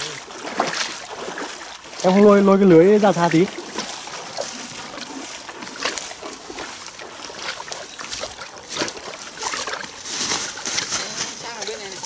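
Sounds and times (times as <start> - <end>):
feet wading through water: 0.0 - 12.0.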